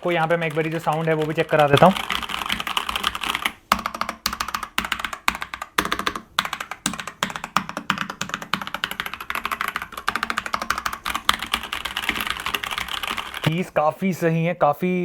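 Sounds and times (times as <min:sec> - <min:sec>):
clicky mechanical keyboard typing: 0:00.0 - 0:13.5.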